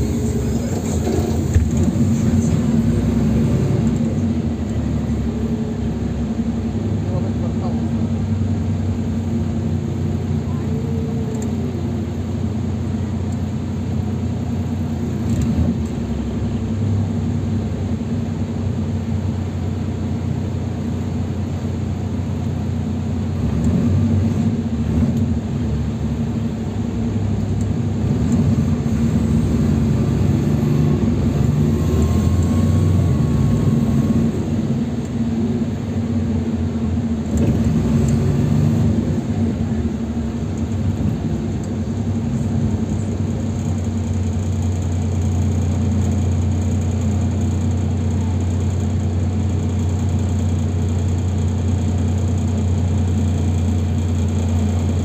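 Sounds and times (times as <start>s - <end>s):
bus diesel engine humming: 0.0s - 55.0s
road noise: 0.0s - 55.0s.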